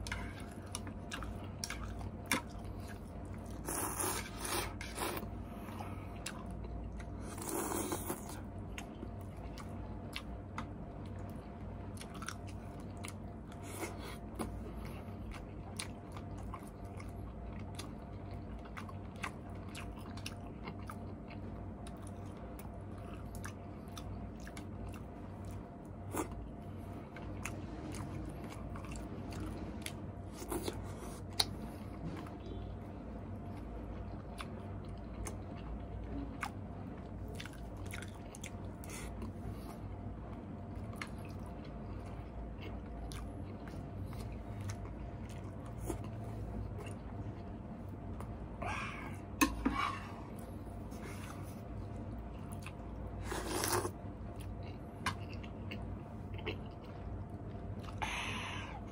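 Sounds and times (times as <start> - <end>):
person chewing noodles: 0.0 - 58.9.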